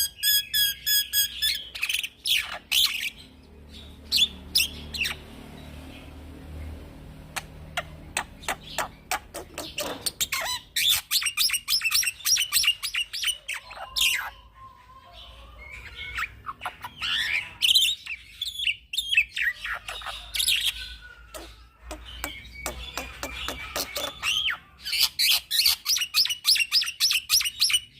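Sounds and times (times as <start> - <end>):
myna bird singing: 0.0 - 27.9.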